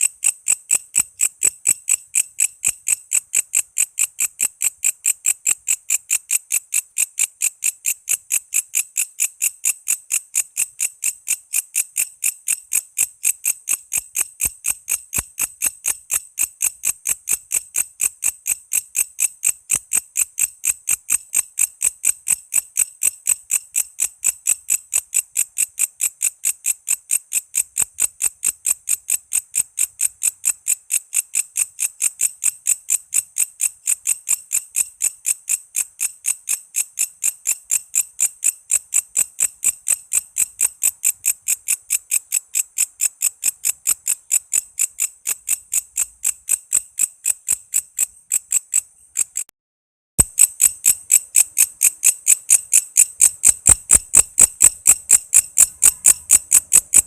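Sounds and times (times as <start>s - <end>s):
insect chirping: 0.0s - 49.5s, 50.2s - 57.0s.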